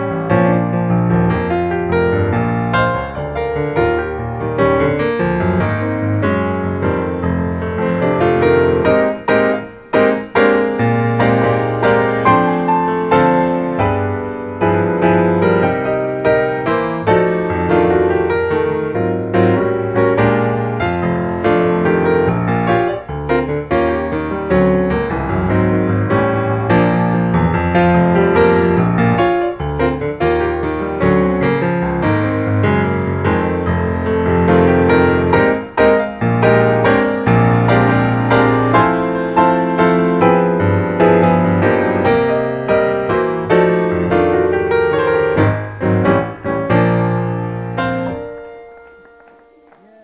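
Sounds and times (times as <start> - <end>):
piano music: 0.0 - 50.0.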